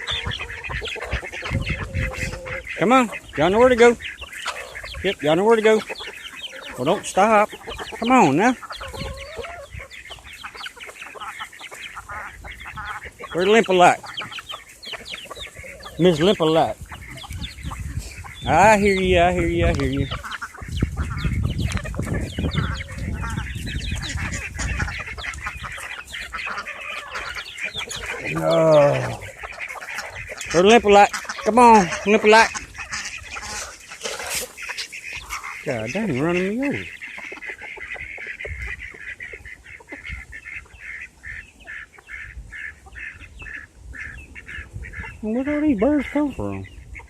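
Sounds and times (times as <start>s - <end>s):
poultry clucking: 0.0s - 47.0s.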